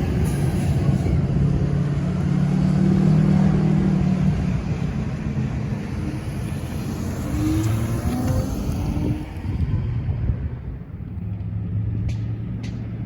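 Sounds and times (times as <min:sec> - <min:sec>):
truck diesel engine driving by: 0:00.0 - 0:10.5.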